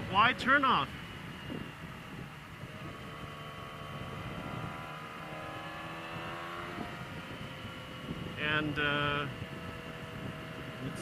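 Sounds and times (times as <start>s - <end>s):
motorcycle engine cruising: 0.0s - 11.0s
road rumble: 0.0s - 11.0s
wind: 0.0s - 11.0s.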